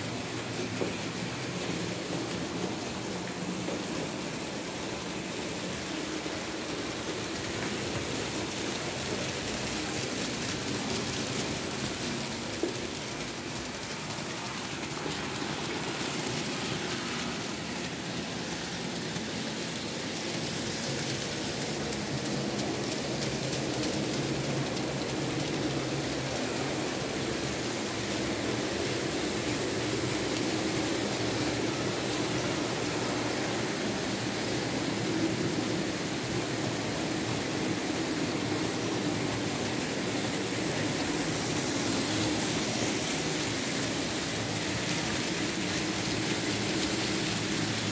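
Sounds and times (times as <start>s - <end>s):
wheels rolling on metal track: 0.0s - 47.9s
model train motor whirring: 3.6s - 47.9s.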